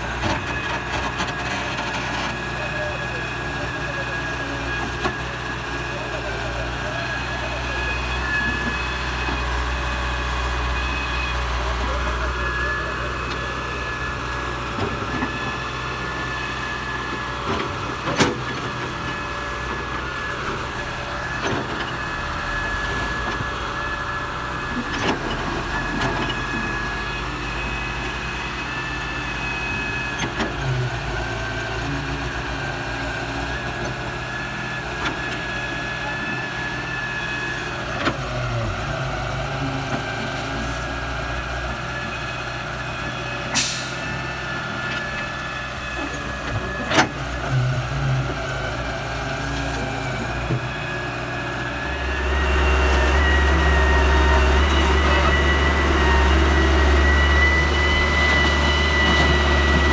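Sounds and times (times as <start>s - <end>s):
excavator diesel engine whining: 0.0s - 59.9s.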